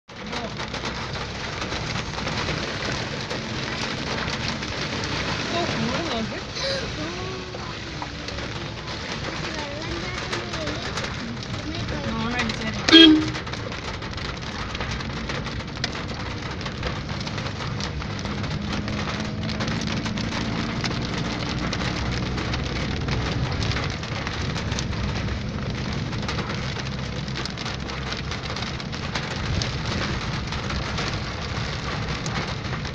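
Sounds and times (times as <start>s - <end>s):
engine and tyres on wet road: 0.0s - 32.9s
rain on car roof: 0.0s - 32.9s.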